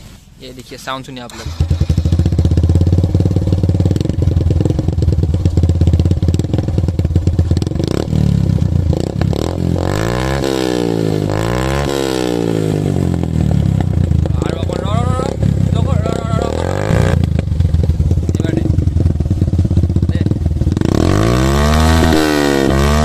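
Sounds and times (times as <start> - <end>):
motorcycle engine revving: 1.3 - 23.0.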